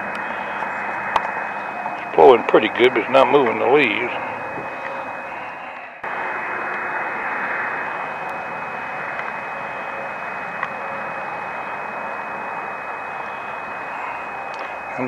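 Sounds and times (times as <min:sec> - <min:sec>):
faint steady high tone: 0:00.0 - 0:15.0
muffled wind noise: 0:00.0 - 0:15.0.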